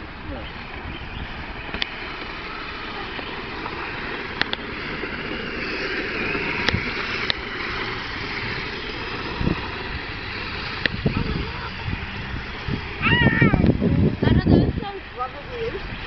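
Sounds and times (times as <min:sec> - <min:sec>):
faint motor whine: 0:00.0 - 0:16.0
rumbling hiss of tyres on asphalt: 0:00.0 - 0:16.0.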